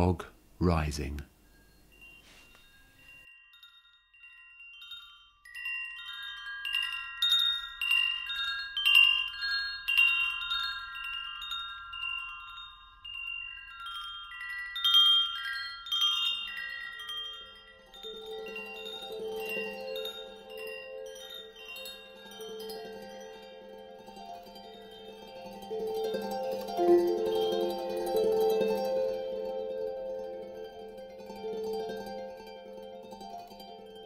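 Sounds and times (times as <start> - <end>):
ringing chimes: 0.7 - 34.0.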